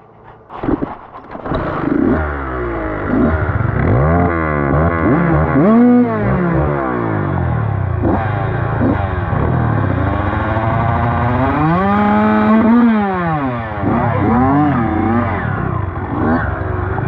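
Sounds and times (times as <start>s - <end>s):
dirt bike engine revving: 0.5s - 17.0s.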